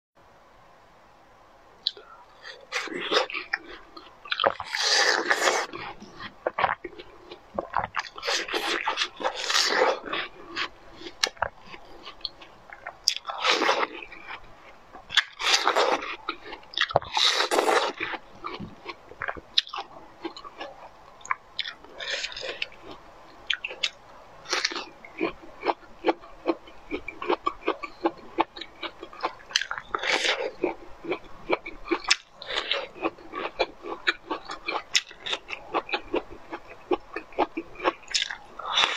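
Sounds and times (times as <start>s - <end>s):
crunchy food chewing: 1.8s - 38.9s.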